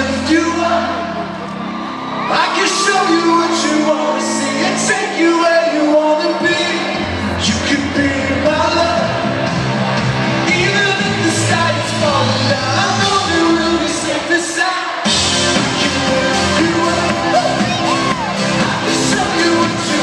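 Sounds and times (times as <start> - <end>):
live pop band playing: 0.0 - 20.0
lead vocal singing: 2.3 - 20.0.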